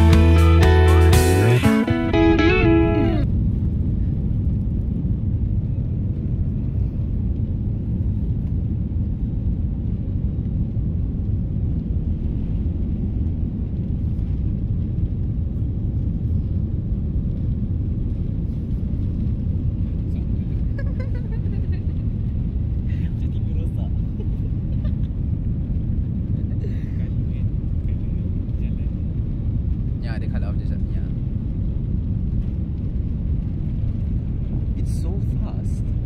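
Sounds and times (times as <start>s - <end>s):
jet engines rumbling: 0.0s - 36.0s.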